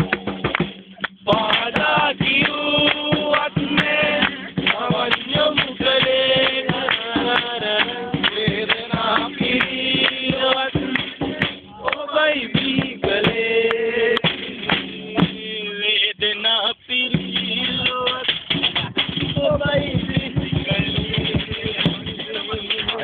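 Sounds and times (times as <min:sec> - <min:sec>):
man singing: 0:01.2 - 0:23.0.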